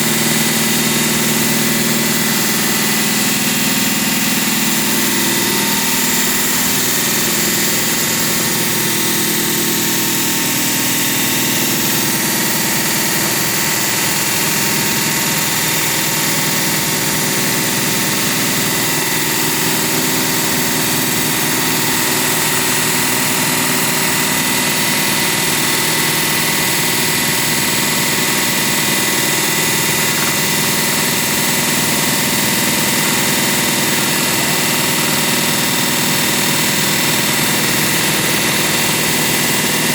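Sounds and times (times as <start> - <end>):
concrete-cutting machine engine: 0.0 - 39.9.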